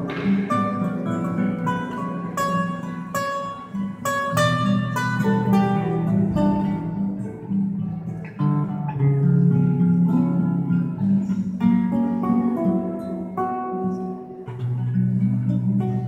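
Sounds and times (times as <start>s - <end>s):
acoustic guitars playing: 0.0s - 16.0s.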